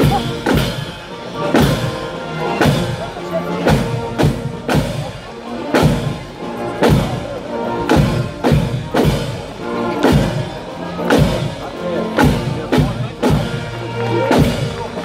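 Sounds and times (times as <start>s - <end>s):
bass drum beats: 0.0s - 15.0s
marching band playing: 0.0s - 15.0s.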